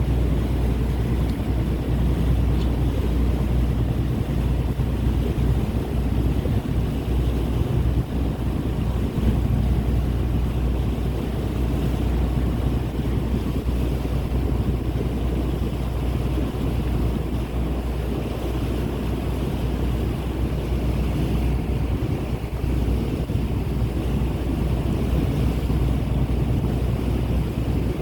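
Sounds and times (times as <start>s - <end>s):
boat engine humming: 0.0s - 28.0s
rushing water: 0.0s - 28.0s
wind buffeting microphone: 0.0s - 28.0s.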